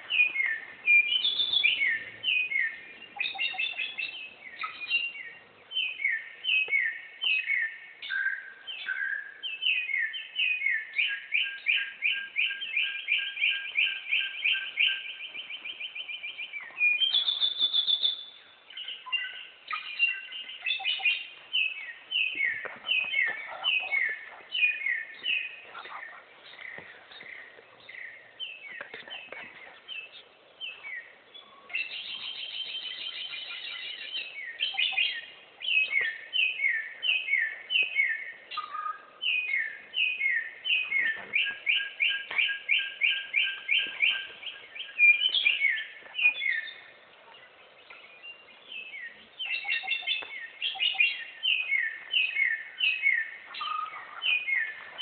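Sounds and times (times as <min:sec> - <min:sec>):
bird singing varied phrases: 0:00.0 - 0:55.0.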